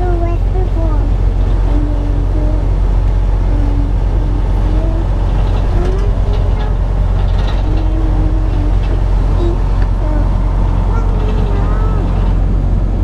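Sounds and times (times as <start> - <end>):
road noise: 0.0 - 13.0
truck diesel engine drone: 0.0 - 13.0.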